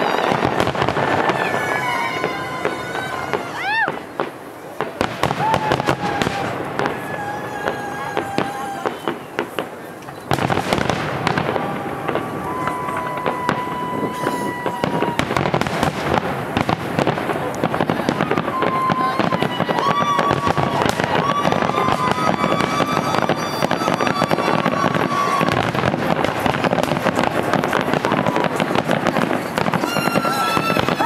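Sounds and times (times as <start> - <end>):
fireworks crackling and popping: 0.0 - 31.0
high firework whistles: 0.0 - 31.0.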